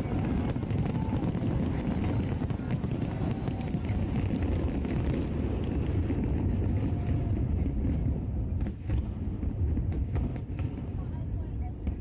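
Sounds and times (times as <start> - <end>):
fireworks crackling and popping: 0.0 - 12.0
fireworks rumbling bursts: 0.0 - 12.0.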